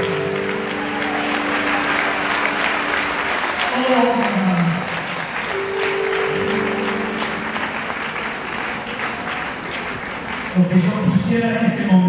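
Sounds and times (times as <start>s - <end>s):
crowd applauding in a hall: 0.0s - 12.0s.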